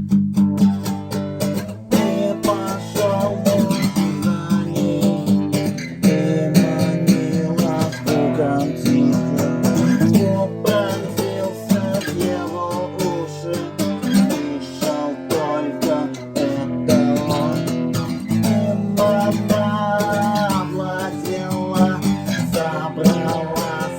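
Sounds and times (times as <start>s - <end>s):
acoustic guitar chords: 0.0s - 23.9s.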